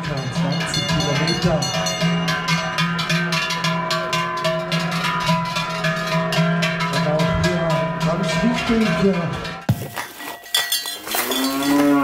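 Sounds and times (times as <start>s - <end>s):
cowbells clanging: 0.0s - 12.0s.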